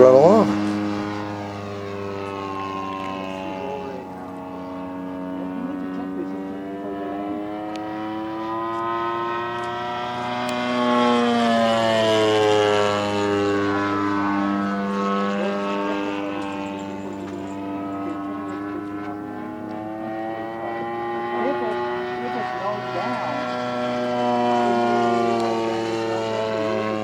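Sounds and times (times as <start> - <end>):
model plane engine passing: 0.0 - 27.0.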